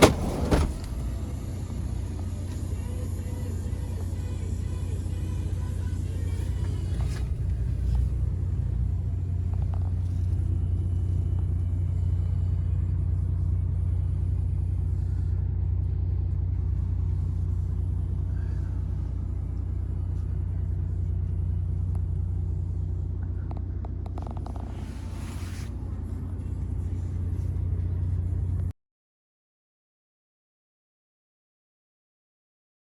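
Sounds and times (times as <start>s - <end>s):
diesel truck engine idling: 0.0s - 28.7s.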